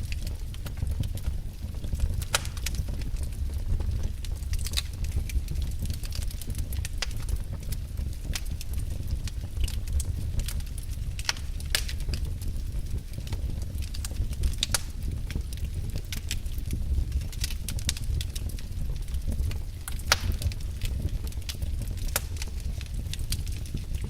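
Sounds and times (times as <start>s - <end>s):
low rumble of flames: 0.0s - 24.0s
wood fire crackling: 0.0s - 24.0s.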